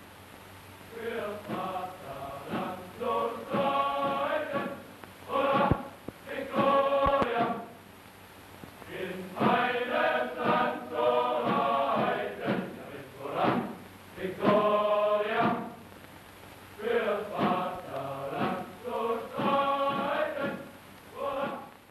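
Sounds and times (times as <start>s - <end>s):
men's chorus singing: 0.9s - 7.8s, 8.8s - 15.9s, 16.8s - 21.8s.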